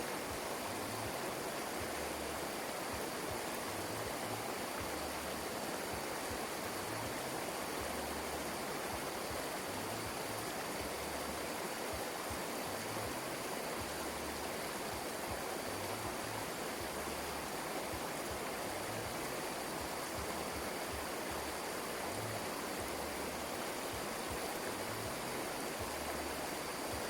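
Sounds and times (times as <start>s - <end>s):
fast-flowing water rushing: 0.0s - 27.0s.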